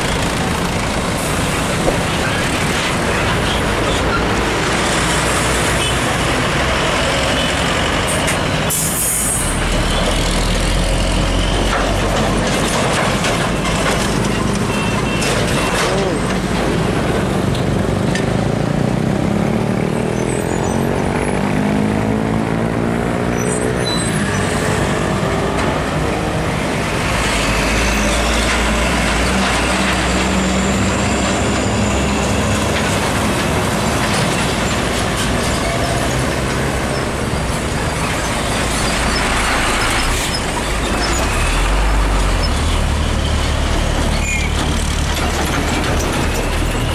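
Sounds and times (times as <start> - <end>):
heavy diesel trucks passing: 0.0 - 46.9.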